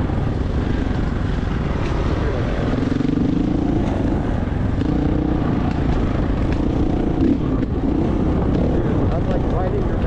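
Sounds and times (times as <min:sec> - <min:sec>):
road and wind rumble: 0:00.0 - 0:10.0
vehicle engine running: 0:00.0 - 0:10.0.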